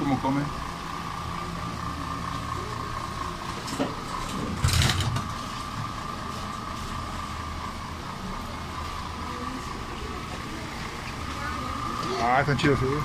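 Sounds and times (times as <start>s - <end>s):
aquarium air pumps humming: 0.0s - 13.0s
constant high whine: 0.0s - 13.0s.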